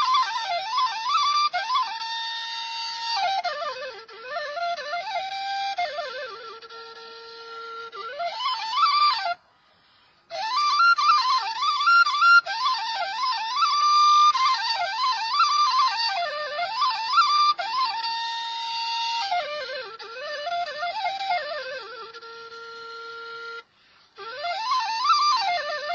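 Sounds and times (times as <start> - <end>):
flute-like woodwind melody: 0.0 - 9.4, 10.3 - 23.6, 24.2 - 25.9.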